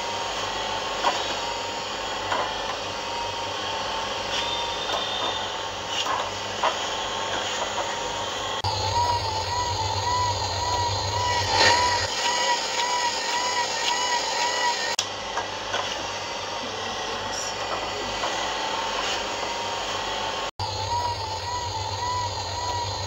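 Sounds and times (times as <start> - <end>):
motor whining: 0.0 - 23.0.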